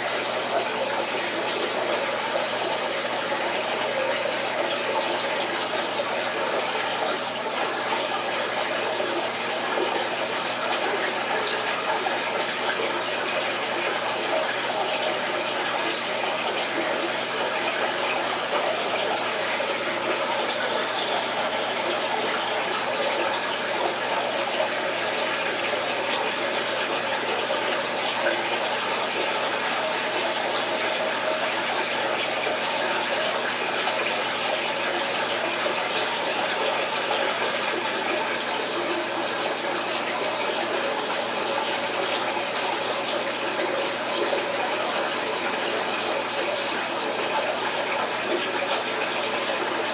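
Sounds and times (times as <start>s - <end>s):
running water rushing: 0.0s - 49.9s.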